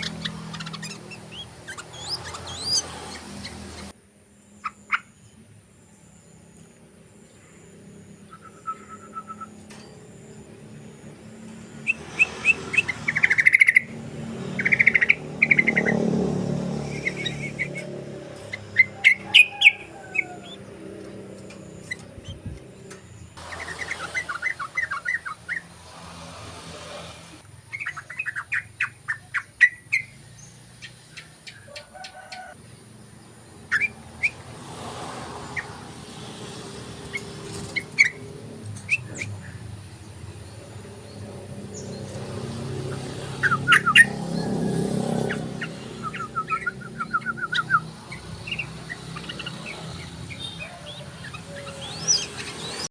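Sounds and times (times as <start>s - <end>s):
bird chattering song: 0.0s - 3.9s, 7.3s - 25.8s, 27.6s - 32.5s, 37.0s - 52.9s.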